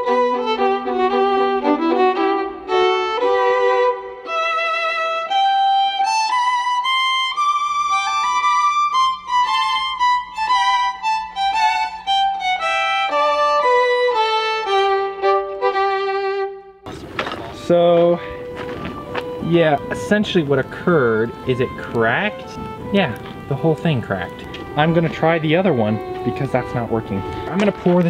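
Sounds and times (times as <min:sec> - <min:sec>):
instrumental melody: 0:00.0 - 0:28.0.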